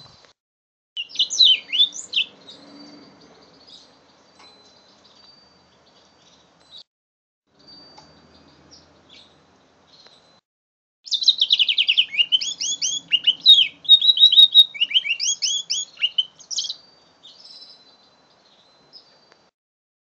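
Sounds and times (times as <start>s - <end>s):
canary singing trills: 1.0s - 6.8s, 7.5s - 10.4s, 11.1s - 19.4s.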